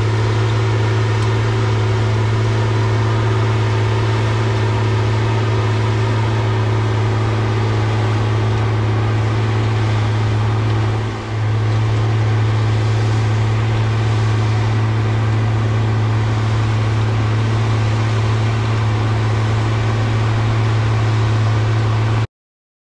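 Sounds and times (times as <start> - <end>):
tractor diesel engine droning: 0.0 - 22.3.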